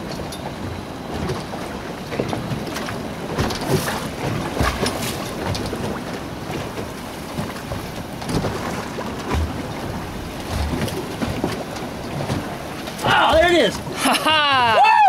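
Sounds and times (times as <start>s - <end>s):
wind buffeting microphone: 0.0s - 14.9s
water slapping against hull: 0.0s - 15.0s.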